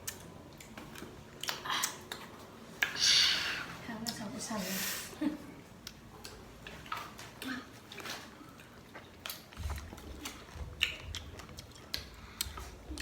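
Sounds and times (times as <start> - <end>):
person chewing fruit: 0.0 - 4.2, 5.7 - 13.0.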